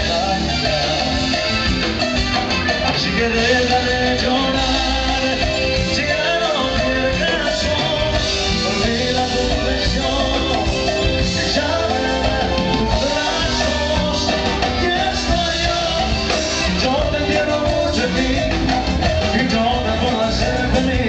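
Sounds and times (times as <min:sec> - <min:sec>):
person singing into microphone: 0:00.0 - 0:02.0, 0:02.7 - 0:21.0
live band music: 0:00.0 - 0:21.0.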